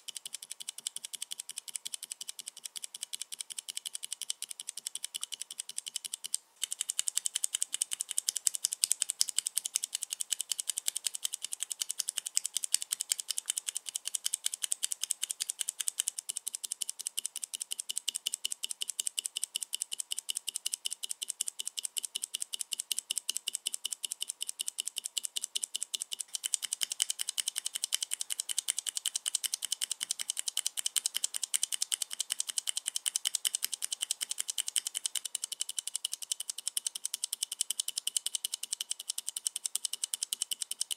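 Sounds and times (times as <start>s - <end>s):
mechanical keyboard clatter: 0.0s - 40.9s.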